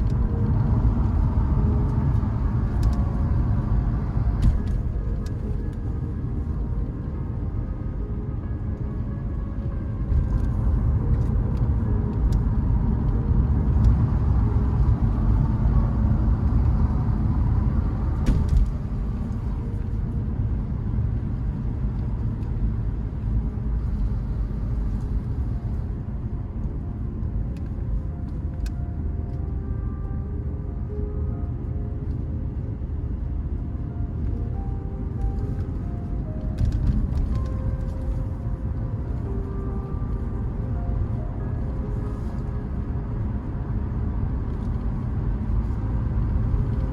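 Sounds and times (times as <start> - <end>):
vehicle engine and road rumble: 0.0 - 46.9.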